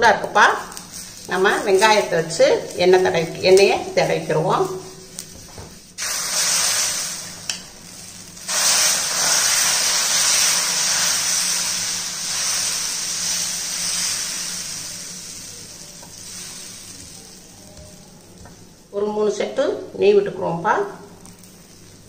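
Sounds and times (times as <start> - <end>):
batter sizzling on a griddle: 0.0 - 18.8, 21.2 - 22.0.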